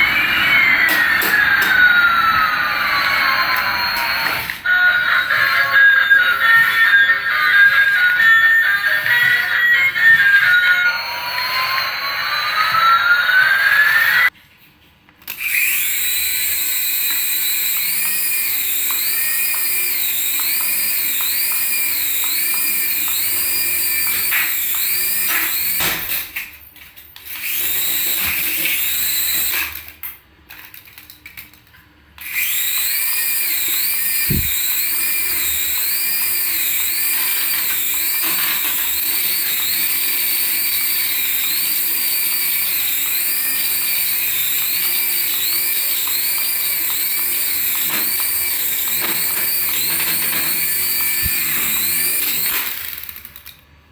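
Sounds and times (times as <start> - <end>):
toy electric motor whining: 0.0 - 14.4, 15.3 - 26.5, 27.2 - 31.0, 32.2 - 53.7.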